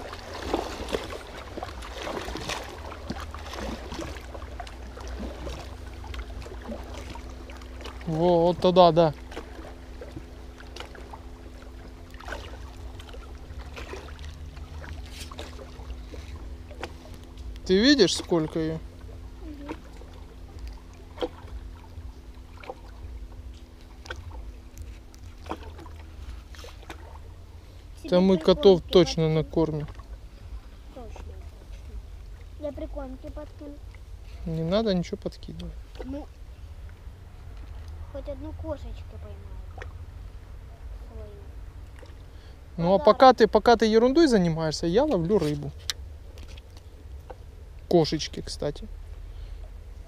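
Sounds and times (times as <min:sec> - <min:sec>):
waves lapping against rocks: 0:00.0 - 0:41.0
faint steady hum: 0:00.0 - 0:50.0
low rumble: 0:00.0 - 0:50.0.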